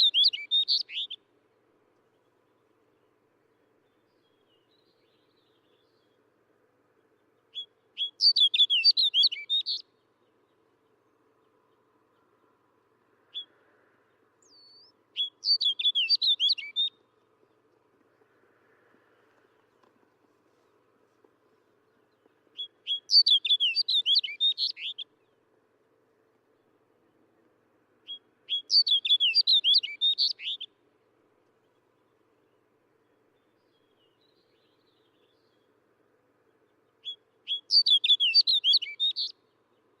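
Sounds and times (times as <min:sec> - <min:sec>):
bird singing warbling song: 0:00.0 - 0:01.3, 0:02.0 - 0:18.4, 0:21.6 - 0:25.6, 0:26.4 - 0:30.9, 0:31.5 - 0:40.0.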